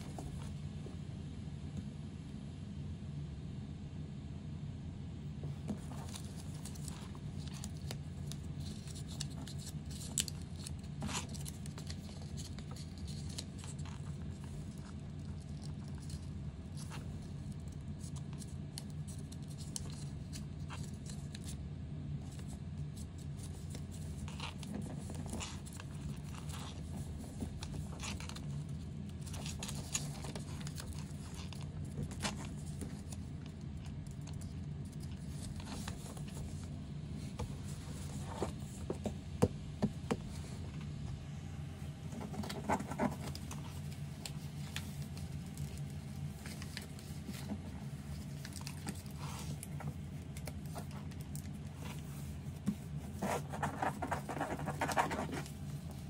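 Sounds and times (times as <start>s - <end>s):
paper crinkling and creasing: 5.5s - 21.6s, 22.2s - 39.2s, 42.0s - 56.0s.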